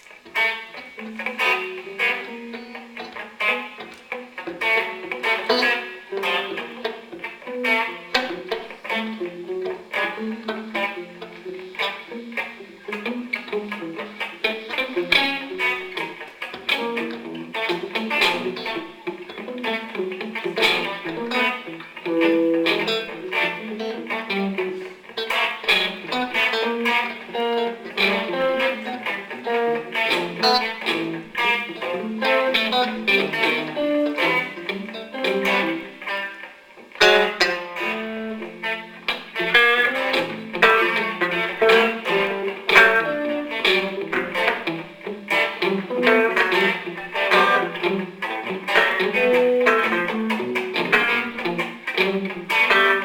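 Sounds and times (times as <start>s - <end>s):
electric guitars playing: 0.0s - 53.0s.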